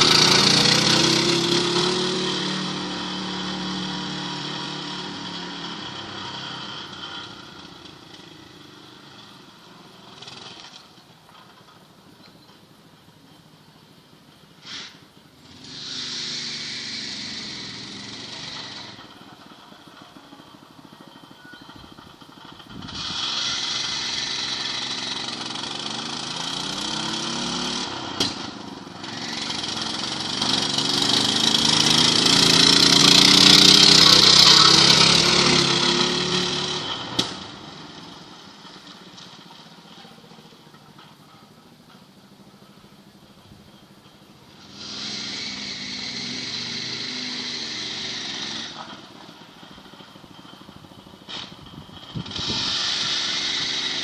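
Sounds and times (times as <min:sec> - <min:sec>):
small single-cylinder engine running: 0:00.0 - 0:11.8, 0:14.6 - 0:54.0.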